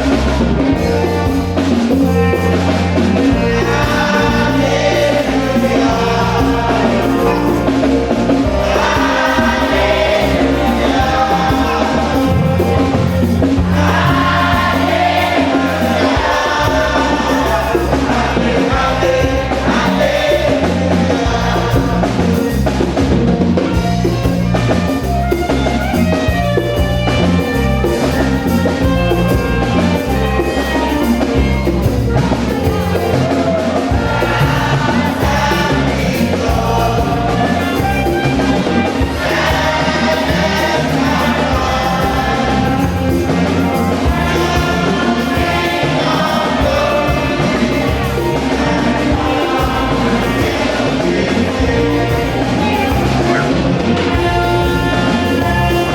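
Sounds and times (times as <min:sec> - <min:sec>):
band with drums and bass: 0:00.0 - 0:55.9
choir singing gospel: 0:00.0 - 0:55.9.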